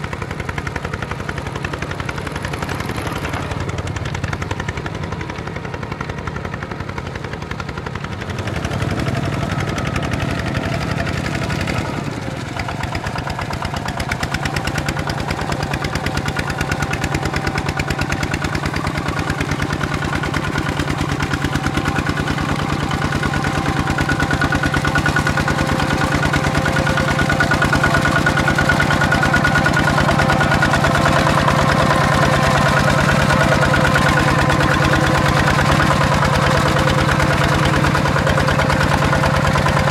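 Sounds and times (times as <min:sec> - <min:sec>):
diesel tiller engine chugging: 0:00.0 - 0:39.9.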